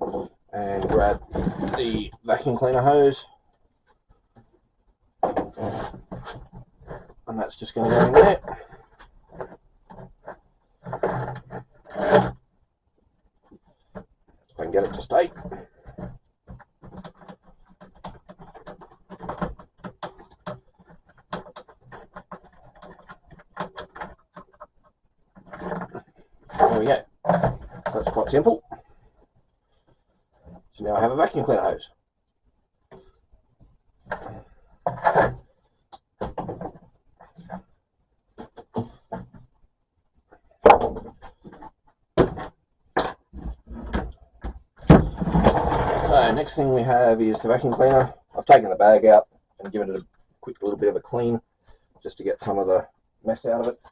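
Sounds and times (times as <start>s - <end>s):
rubber rubbing and squeaking on plastic: 0.0s - 4.6s, 5.2s - 53.9s.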